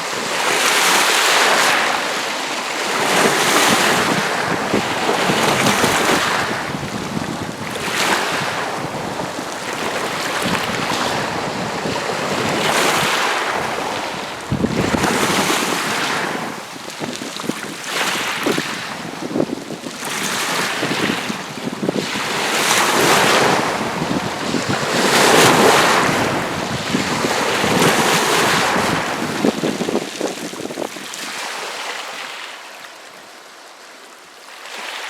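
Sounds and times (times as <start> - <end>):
lake waves washing on shore: 0.0 - 35.0.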